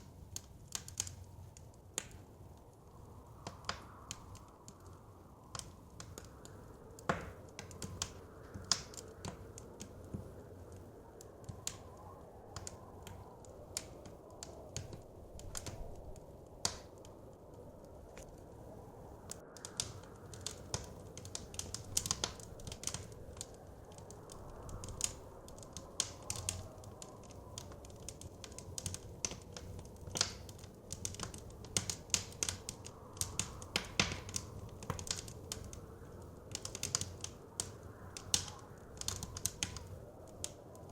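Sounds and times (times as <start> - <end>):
blizzard wind rushing: 0.0 - 40.9
wood fire crackling and popping: 0.0 - 40.9.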